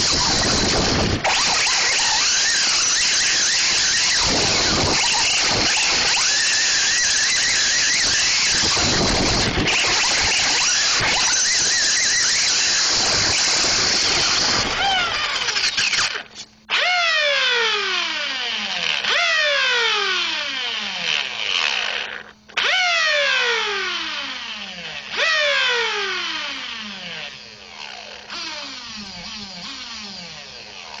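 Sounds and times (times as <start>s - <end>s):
electric motor revving: 0.0s - 31.0s.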